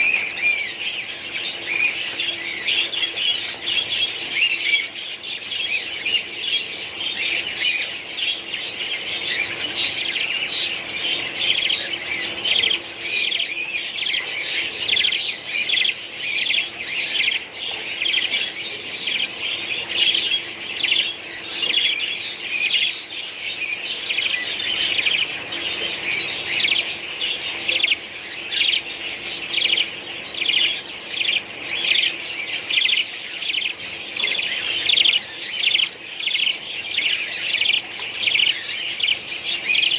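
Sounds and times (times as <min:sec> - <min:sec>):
budgerigars chirping and chattering: 0:00.0 - 0:39.9
faint steady hum: 0:00.0 - 0:39.9.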